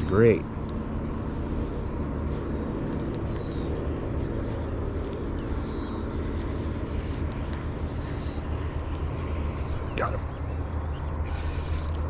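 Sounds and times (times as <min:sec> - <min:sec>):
distant engine hum: 0:00.0 - 0:12.0
bird chirps: 0:01.8 - 0:12.0.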